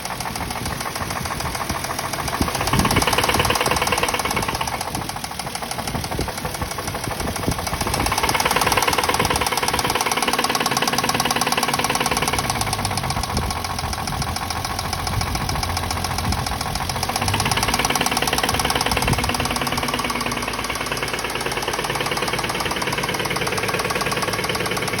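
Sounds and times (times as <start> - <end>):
car engine running: 0.0 - 25.0
fast knocking inside engine: 0.0 - 25.0.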